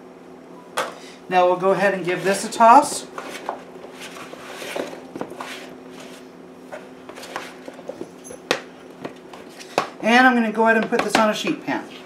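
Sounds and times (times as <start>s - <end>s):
steady low hum: 0.0s - 12.0s
utensil tossing potatoes in plastic bowl: 1.7s - 12.0s.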